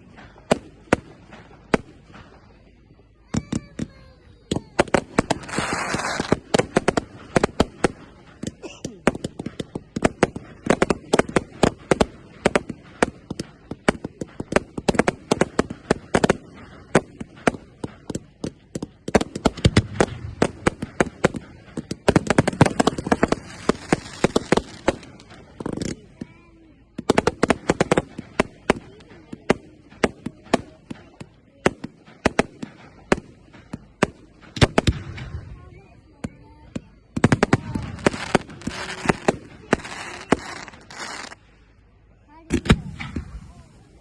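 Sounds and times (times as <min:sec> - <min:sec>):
fireworks banging: 0:00.0 - 0:44.0
fireworks crackling: 0:00.0 - 0:44.0.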